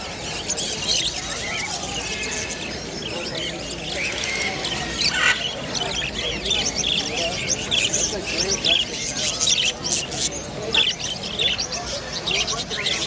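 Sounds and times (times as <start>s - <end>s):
birds chirping and squawking: 0.0s - 13.0s
crowd chatter: 0.0s - 13.0s.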